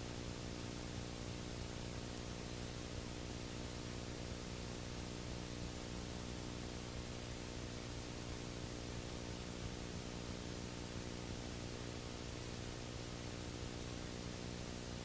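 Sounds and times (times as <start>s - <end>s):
electrical hum: 0.0s - 15.0s
steady hiss: 0.0s - 15.0s.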